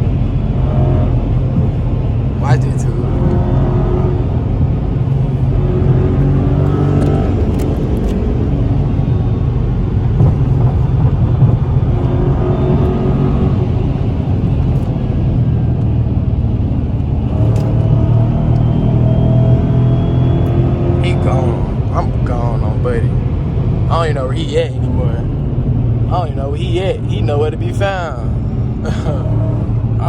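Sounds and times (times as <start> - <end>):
car engine accelerating: 0.0 - 30.0
road noise: 0.0 - 30.0.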